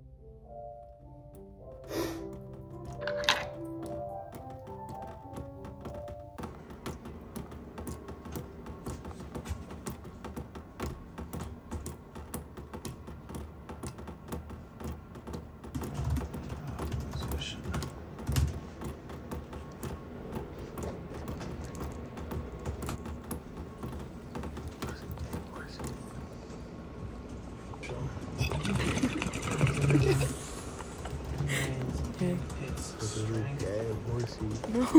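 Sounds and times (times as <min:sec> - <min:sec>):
laptop keyboard typing: 0:01.9 - 0:27.0, 0:28.3 - 0:34.9.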